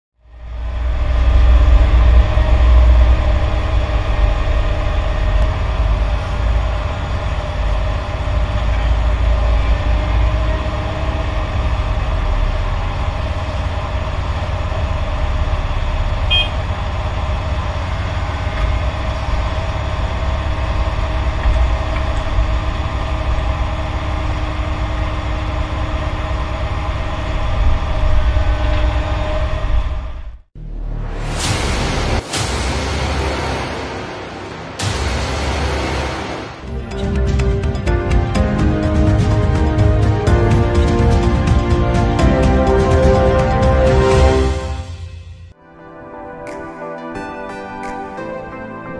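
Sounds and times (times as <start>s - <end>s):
diesel construction machinery rumbling: 0.2s - 45.6s.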